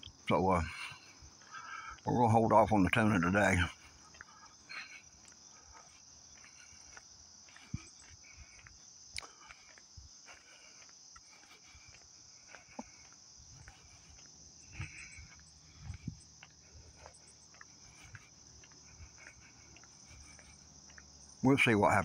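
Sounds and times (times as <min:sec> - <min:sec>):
footsteps on pavement: 0:00.0 - 0:22.0
high-pitched insect chorus: 0:00.0 - 0:22.0.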